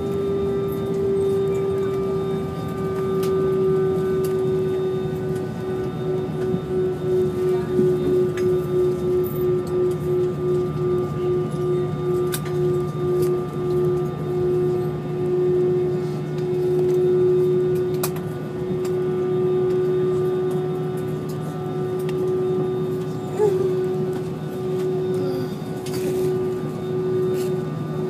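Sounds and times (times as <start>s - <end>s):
jet engine cabin drone: 0.0s - 28.0s.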